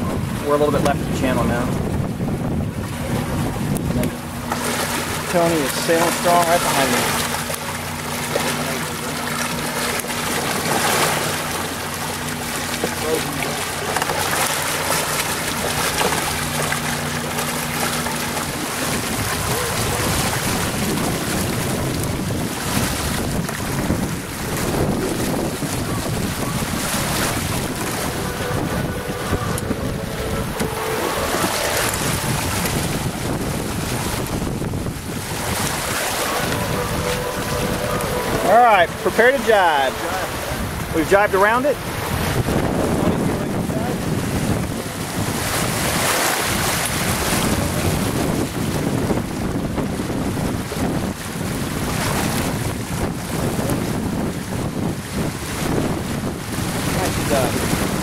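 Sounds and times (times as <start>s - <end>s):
waves and water washing: 0.0s - 58.0s
wind buffeting microphone: 0.0s - 58.0s.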